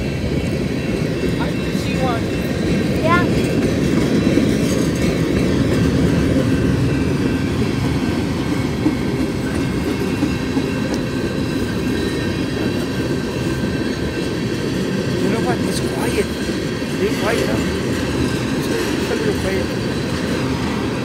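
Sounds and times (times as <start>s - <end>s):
train rolling past: 0.0s - 21.0s.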